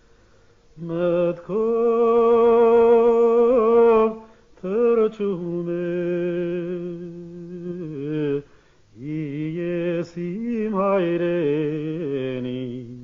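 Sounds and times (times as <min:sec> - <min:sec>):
man singing unaccompanied: 0:00.8 - 0:13.0.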